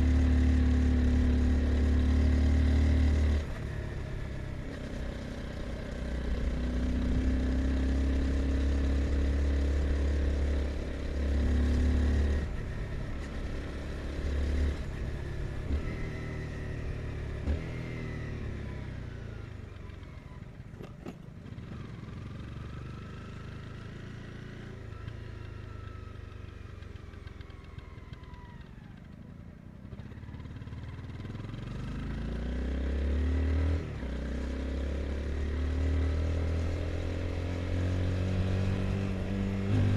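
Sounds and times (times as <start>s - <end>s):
motorcycle engine revving: 0.0s - 26.0s, 29.9s - 39.9s.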